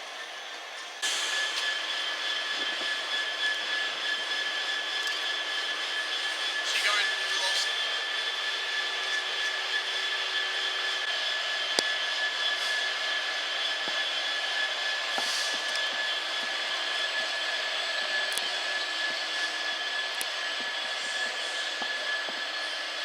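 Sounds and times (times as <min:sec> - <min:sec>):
locomotive engine whine: 0:00.0 - 0:23.0.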